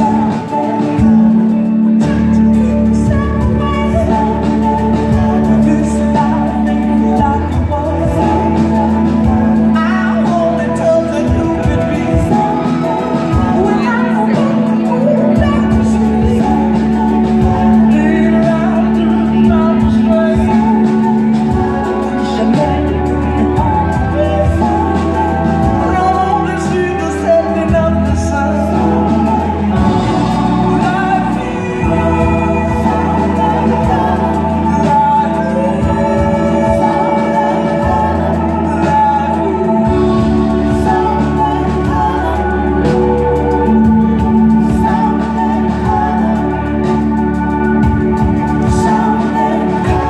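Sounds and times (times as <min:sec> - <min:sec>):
live band playing: 0:00.0 - 0:50.0
woman singing: 0:00.0 - 0:50.0.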